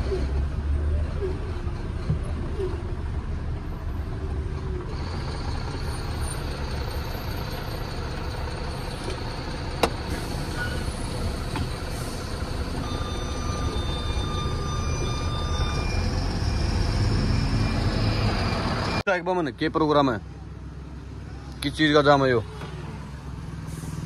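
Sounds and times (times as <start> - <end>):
truck engine rumble from cab: 0.0 - 24.0.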